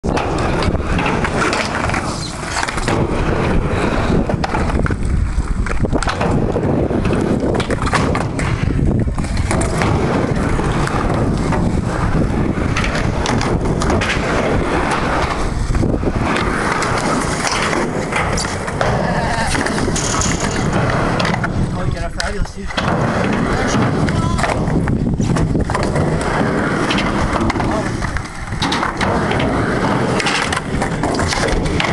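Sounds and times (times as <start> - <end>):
skateboard knocks and clacks: 0.0 - 31.9
skateboard wheels rolling on concrete: 0.0 - 31.9.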